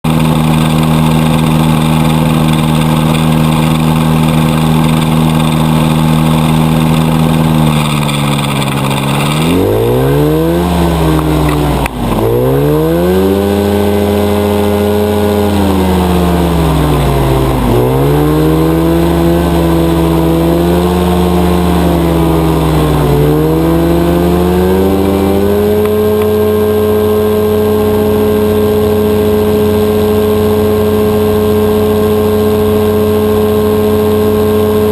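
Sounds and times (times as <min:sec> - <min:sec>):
two-stroke engine revving: 0:00.0 - 0:34.9.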